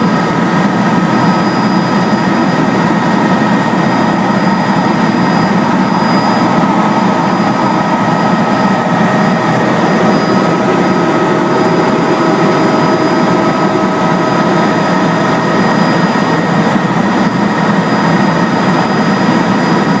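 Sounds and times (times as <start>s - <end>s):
helicopter engine and rotor drone: 0.0s - 20.0s
whining tones: 0.0s - 20.0s.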